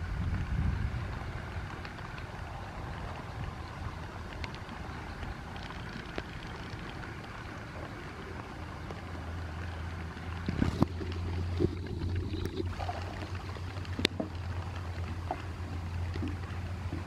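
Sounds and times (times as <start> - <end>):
steady low rumble: 0.0 - 17.0
water: 0.0 - 17.0
wind: 0.0 - 17.0.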